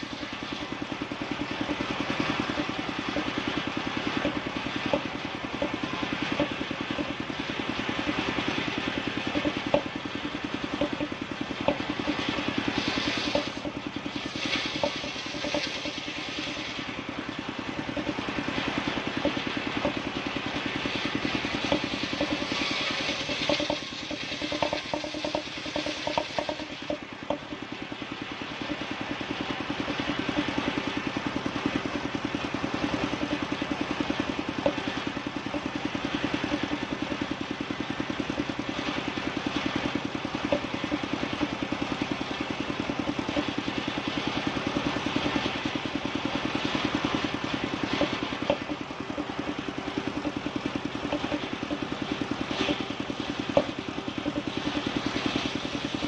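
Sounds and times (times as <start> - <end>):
engine-driven wood saw running: 0.0 - 56.0.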